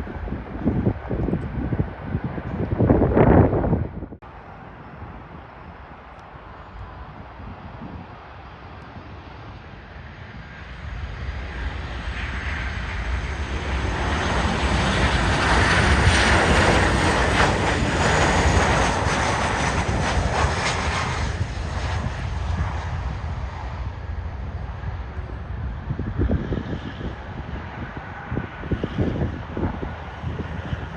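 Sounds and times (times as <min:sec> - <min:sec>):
airliner engine roar passing over: 0:00.0 - 0:30.9.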